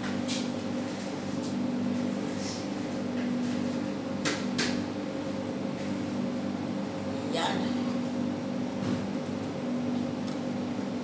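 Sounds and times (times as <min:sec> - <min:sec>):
appliance fan hum: 0:00.0 - 0:11.0.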